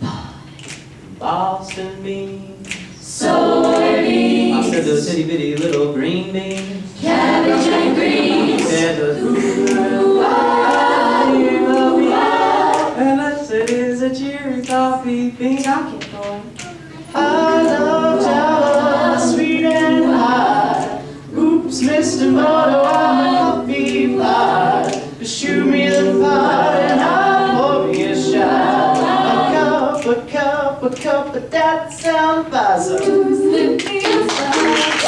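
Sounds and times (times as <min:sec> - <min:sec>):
a cappella ensemble singing: 0:00.0 - 0:35.0.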